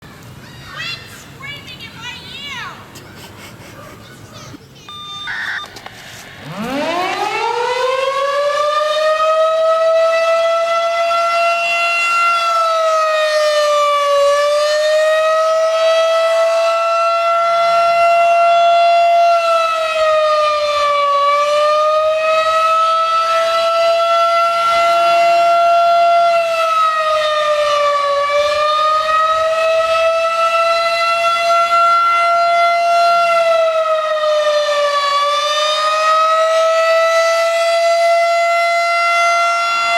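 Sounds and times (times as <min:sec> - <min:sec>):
warning siren wailing: 0:04.9 - 0:39.9.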